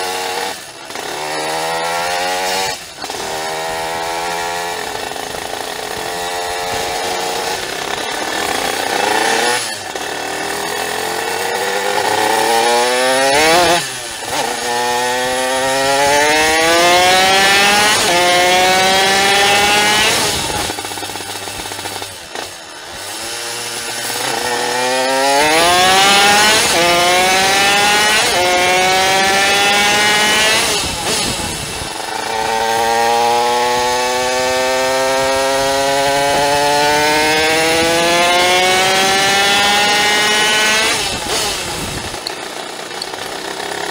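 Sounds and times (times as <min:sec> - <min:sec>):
two-stroke moped engine accelerating: 0:00.0 - 0:43.9.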